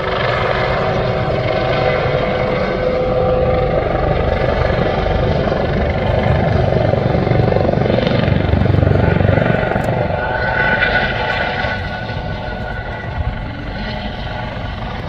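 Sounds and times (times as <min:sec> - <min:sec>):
helicopter flying past: 0:00.0 - 0:15.0.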